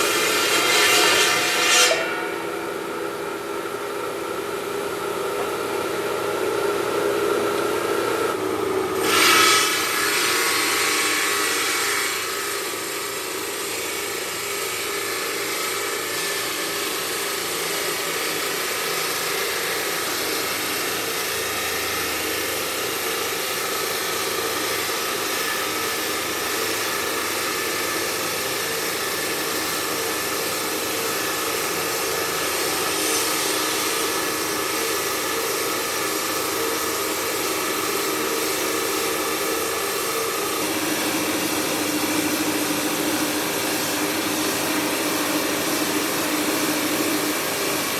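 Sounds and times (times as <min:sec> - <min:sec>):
stone-cutting machinery humming: 0:00.0 - 0:47.9.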